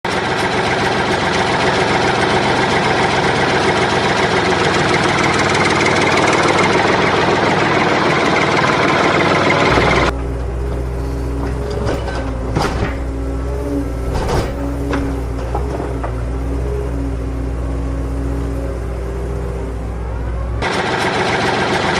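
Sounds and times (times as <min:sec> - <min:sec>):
engine idling: 0:00.1 - 0:21.9.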